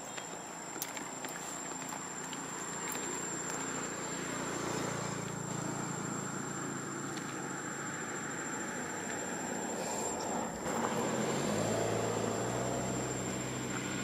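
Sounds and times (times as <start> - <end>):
passing vehicle engine hum: 2.6 - 14.0.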